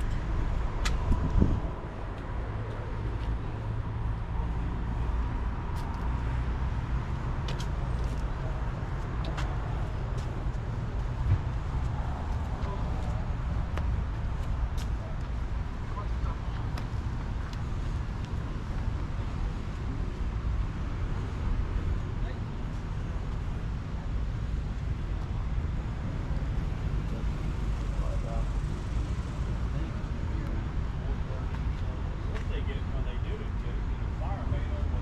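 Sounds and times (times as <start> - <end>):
outdoor background rumble: 0.0 - 35.0.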